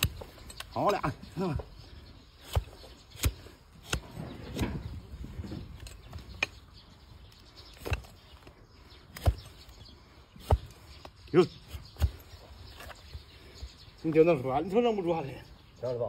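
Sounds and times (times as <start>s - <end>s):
blade cutting hoof: 0.0s - 13.1s.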